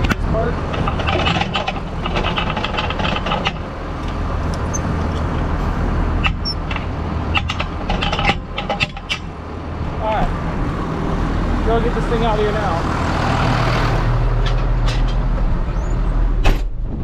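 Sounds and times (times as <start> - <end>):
tractor engine idling: 0.0 - 16.4.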